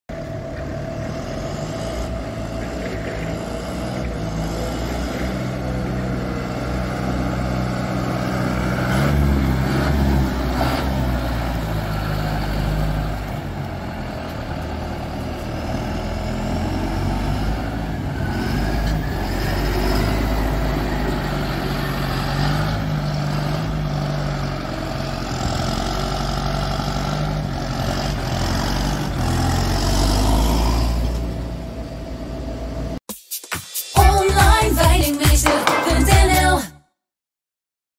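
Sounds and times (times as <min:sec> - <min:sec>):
tractor diesel engine revving: 0:00.1 - 0:33.0.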